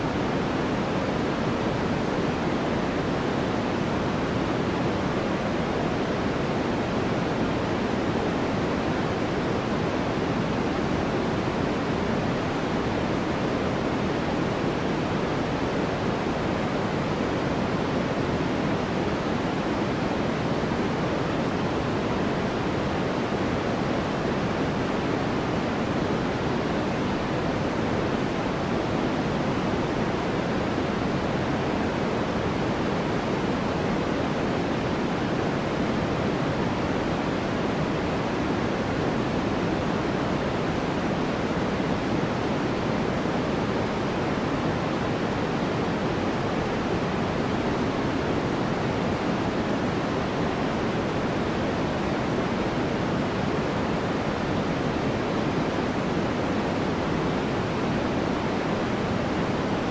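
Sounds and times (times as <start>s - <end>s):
steady low sleep noise hiss: 0.0s - 59.9s.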